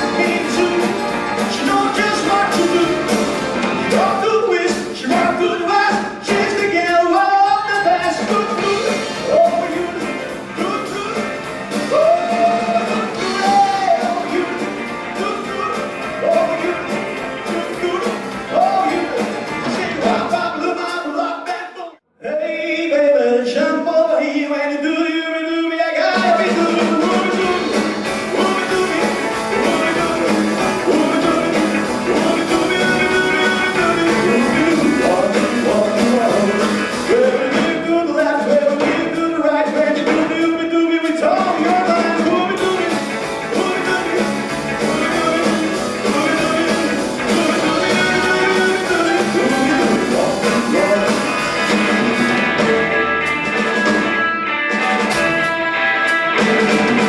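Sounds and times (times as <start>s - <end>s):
live rock band playing: 0.0s - 21.2s, 26.1s - 57.0s
person singing lead vocals: 0.0s - 52.9s.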